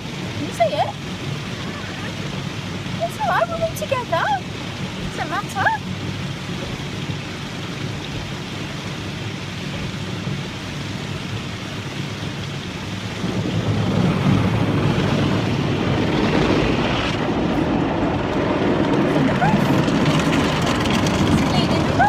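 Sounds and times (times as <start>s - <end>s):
water spray on car: 0.0s - 22.0s.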